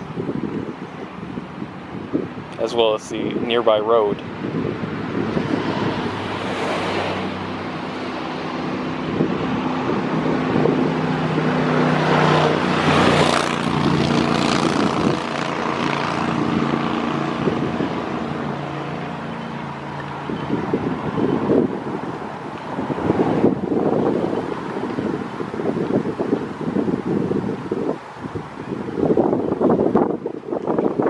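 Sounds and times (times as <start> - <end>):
passing motor vehicle engine: 4.2 - 31.0.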